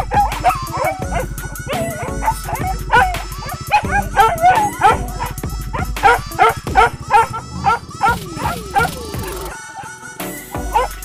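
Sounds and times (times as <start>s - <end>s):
background music: 0.0s - 11.0s
dogs yelping and barking: 0.0s - 11.0s.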